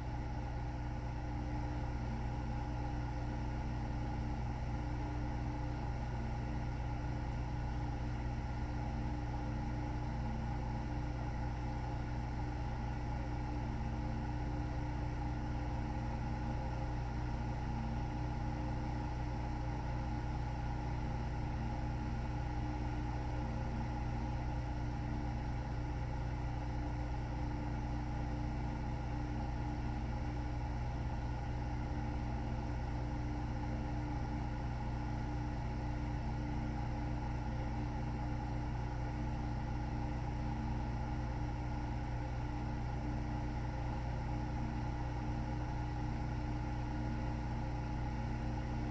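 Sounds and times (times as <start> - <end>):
machine hum: 0.0 - 48.9.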